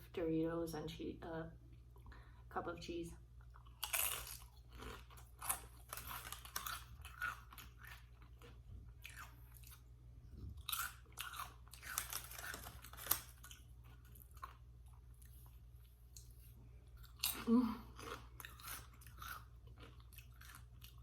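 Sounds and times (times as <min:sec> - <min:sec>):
chewing crunchy chips: 0:03.4 - 0:21.0.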